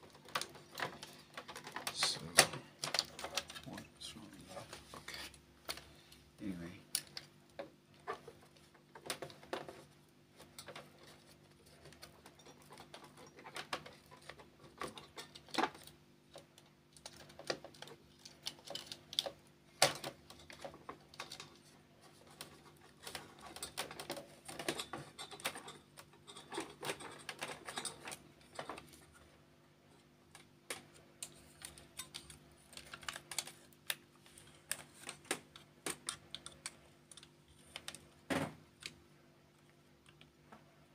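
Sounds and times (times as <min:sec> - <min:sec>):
plastic and metal parts rattling: 0:00.0 - 0:39.0.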